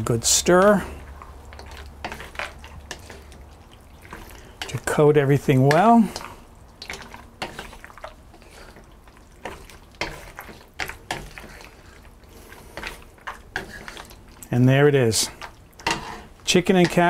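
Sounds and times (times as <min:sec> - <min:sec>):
spatula stirring food in wok: 0:00.0 - 0:17.0.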